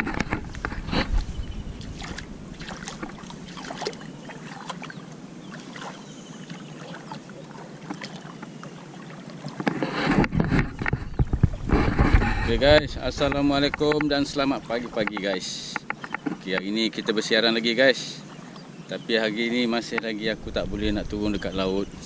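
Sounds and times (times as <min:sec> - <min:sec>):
water splashing and lapping: 0:00.0 - 0:12.6, 0:13.2 - 0:18.7.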